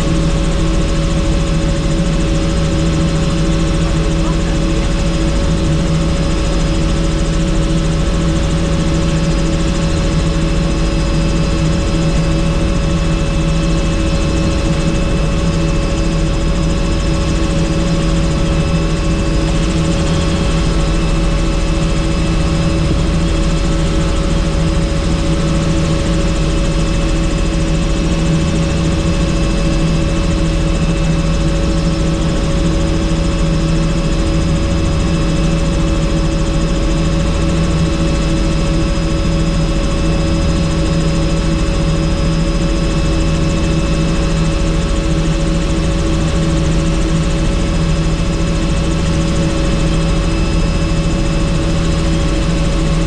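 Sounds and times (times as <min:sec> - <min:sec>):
helicopter rotor and engine drone: 0:00.0 - 0:53.0.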